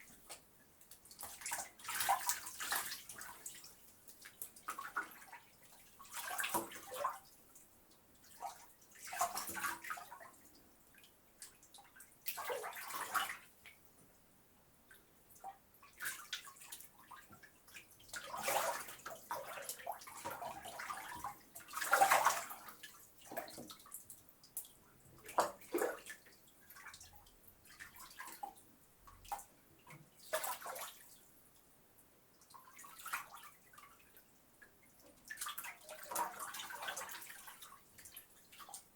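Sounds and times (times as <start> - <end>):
bathwater sloshing and splashing: 1.0 - 13.5, 15.4 - 31.3, 32.4 - 38.9.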